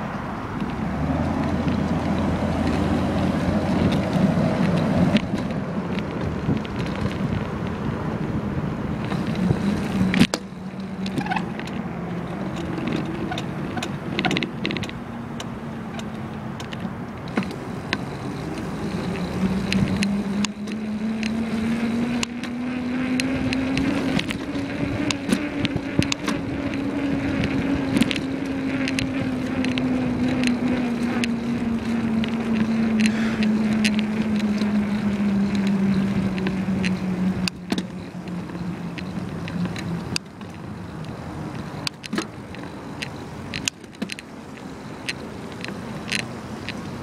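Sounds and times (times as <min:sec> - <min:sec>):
bicycle rolling hum: 0:00.0 - 0:47.0
bike rattling and clicking: 0:00.0 - 0:47.0.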